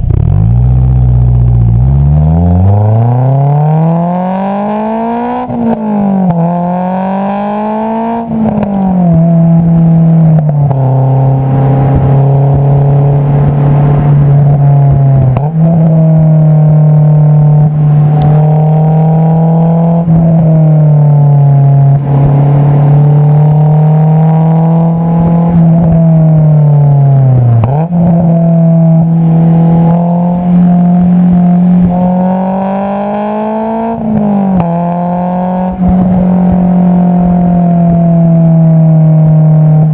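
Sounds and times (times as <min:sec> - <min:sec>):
car engine and exhaust under load: 0:00.0 - 0:39.9.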